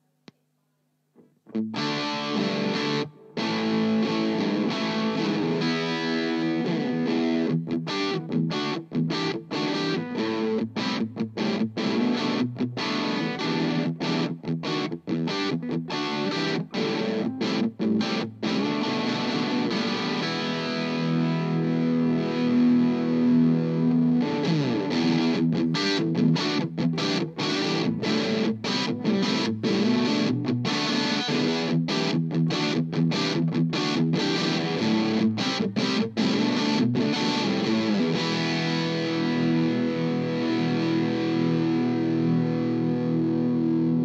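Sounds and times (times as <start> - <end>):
distorted electric guitar chord: 1.6 - 44.0.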